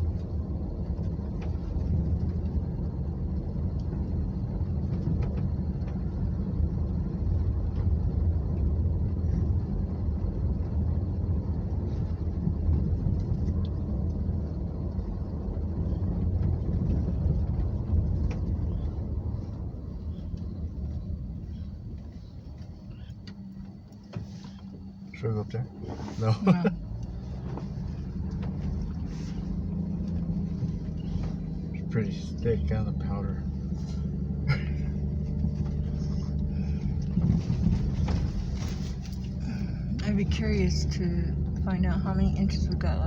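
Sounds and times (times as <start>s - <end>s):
car engine and tyres rumbling: 0.0s - 43.0s.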